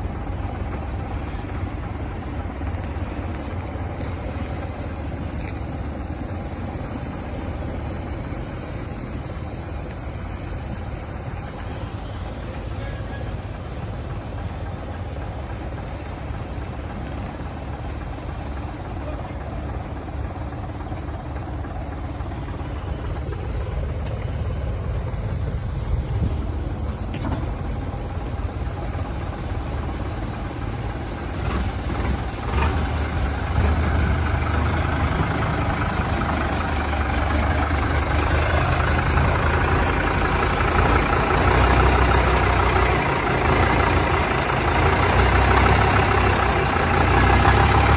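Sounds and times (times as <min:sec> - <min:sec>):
heavy vehicle engine idling: 0:00.0 - 0:47.9.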